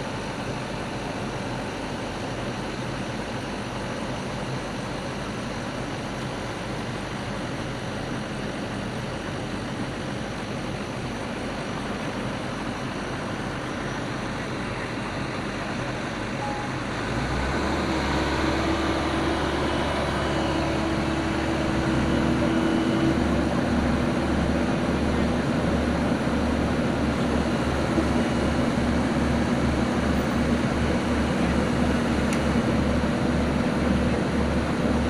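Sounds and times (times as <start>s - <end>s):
excavator engine running under load: 0.1s - 35.0s.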